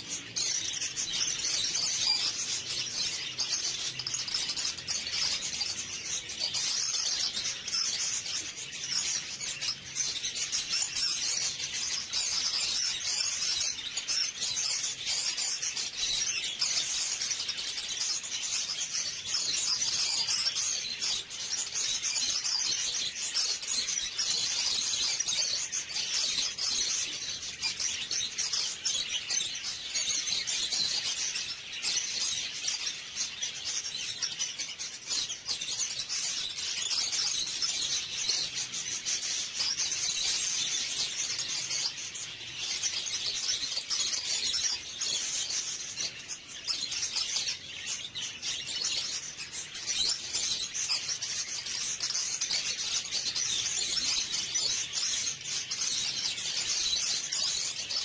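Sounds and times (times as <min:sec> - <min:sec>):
budgerigars chirping and warbling: 0:00.0 - 0:58.0.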